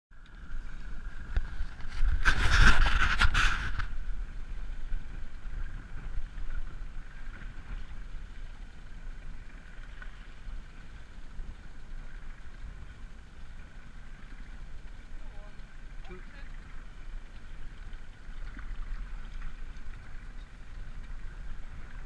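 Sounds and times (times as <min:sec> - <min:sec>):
wind on microphone: 0:00.3 - 0:22.0.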